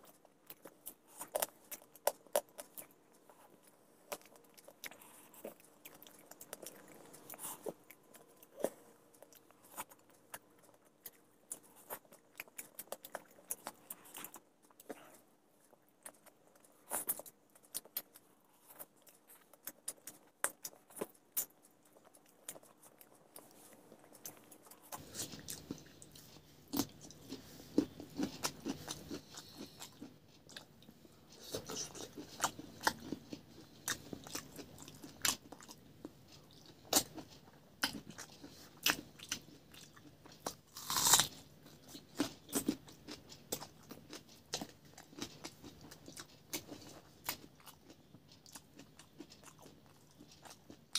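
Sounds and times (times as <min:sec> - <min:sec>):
faint low hum: 0:00.0 - 0:50.9
person chewing and crunching food: 0:00.0 - 0:50.9.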